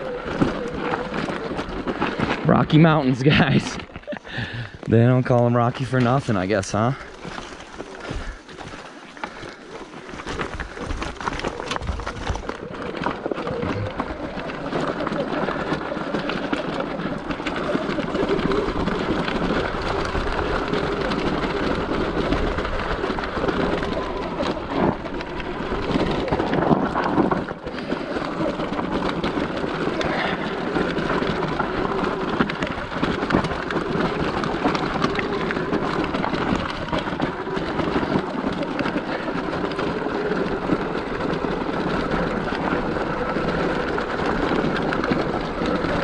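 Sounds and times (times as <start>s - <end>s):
bike rattling over rock: 0.0s - 46.0s
tyres crunching over rocks: 0.0s - 46.0s.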